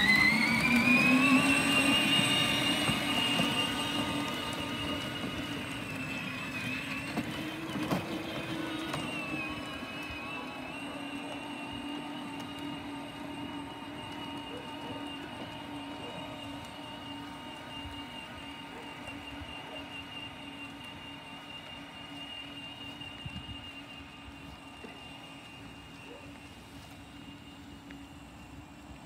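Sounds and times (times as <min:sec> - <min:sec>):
electric motors whining: 0:00.0 - 0:29.0.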